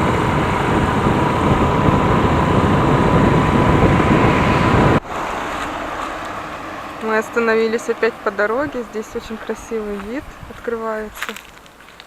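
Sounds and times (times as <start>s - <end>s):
scooter engine running: 0.0s - 11.6s
wind rushing over microphone: 0.0s - 11.6s.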